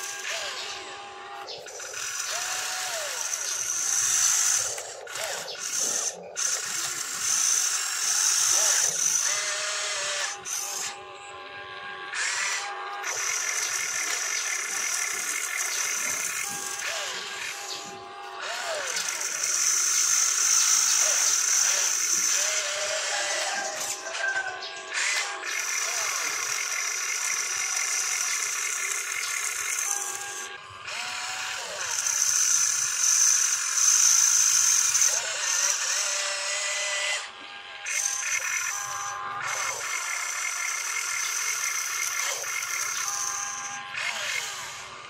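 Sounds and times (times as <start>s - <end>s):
electric motors whining: 0.0s - 45.0s.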